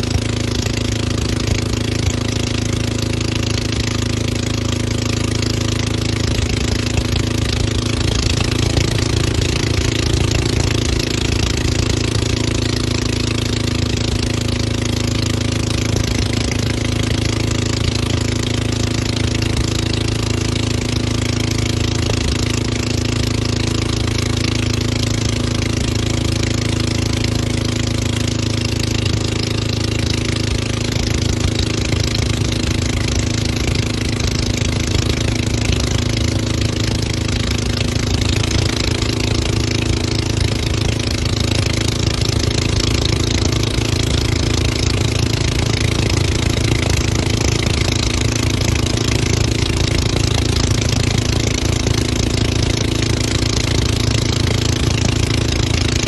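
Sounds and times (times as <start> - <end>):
motorboat engine humming: 0.0 - 56.0
water rushing: 0.0 - 56.0.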